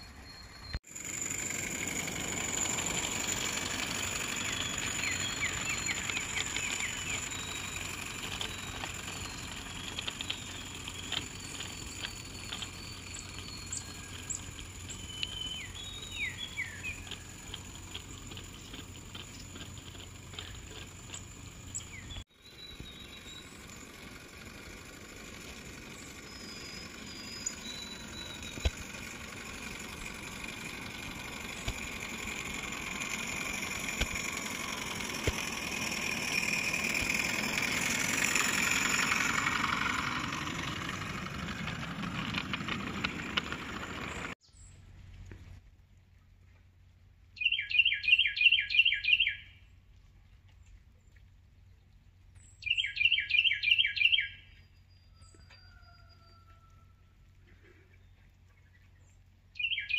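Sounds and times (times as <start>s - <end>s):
birds chirping: 0.0s - 44.8s, 47.4s - 49.7s, 51.8s - 59.9s.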